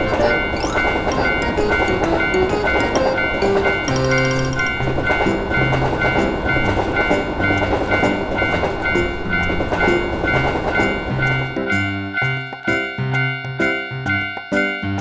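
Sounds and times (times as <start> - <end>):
railroad crossing bell clanging: 0.0 - 15.0
simple music track: 0.0 - 15.0
train rumbling: 0.0 - 15.0.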